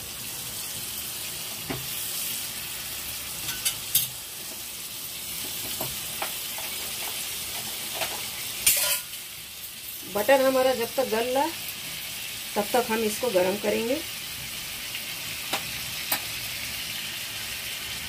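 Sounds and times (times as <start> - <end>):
butter sizzling in a metal pan: 0.0 - 18.0.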